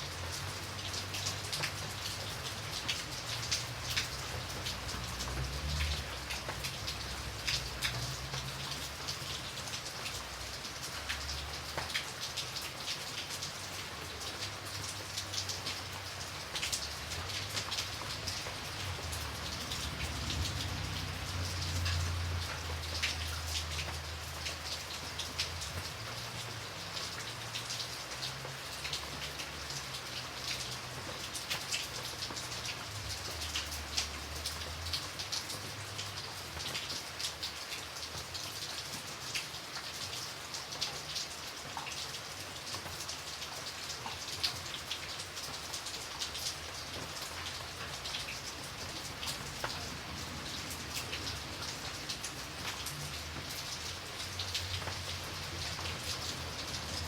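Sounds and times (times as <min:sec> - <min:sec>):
rain drops striking a surface: 0:00.0 - 0:57.0.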